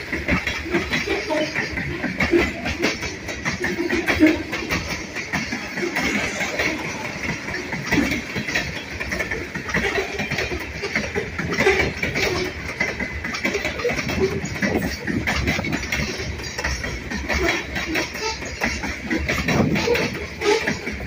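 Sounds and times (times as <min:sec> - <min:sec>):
clanks and knocks: 0:00.0 - 0:21.0
freight train wheels rumbling on rail: 0:00.0 - 0:21.0.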